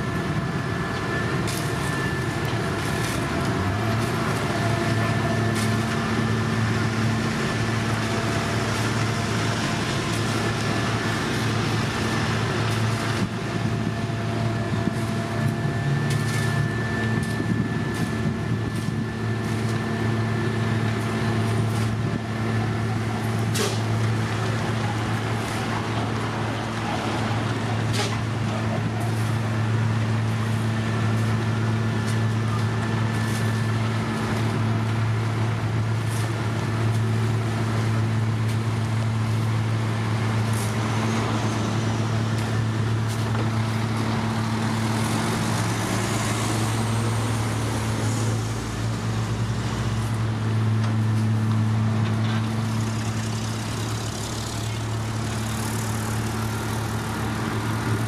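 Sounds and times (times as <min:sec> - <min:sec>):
heavy diesel engines droning: 0:00.0 - 0:58.0.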